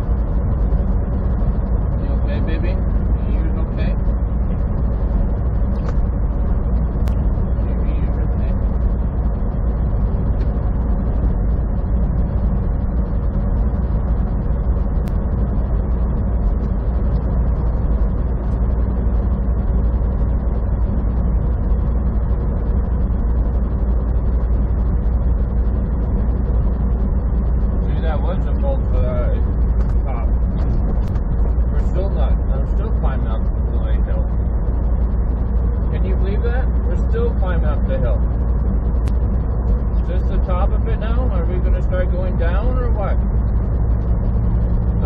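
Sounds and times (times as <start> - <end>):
truck engine drone: 0.0 - 45.0
tyre and road noise: 0.0 - 45.0.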